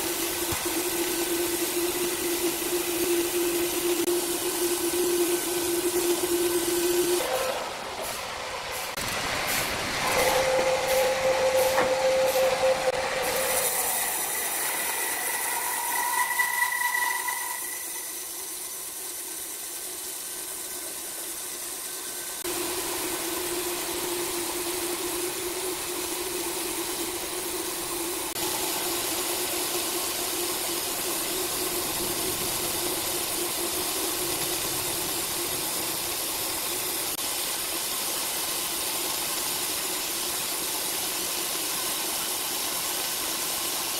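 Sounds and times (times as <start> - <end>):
band sawmill cutting through log: 0.0 - 43.9.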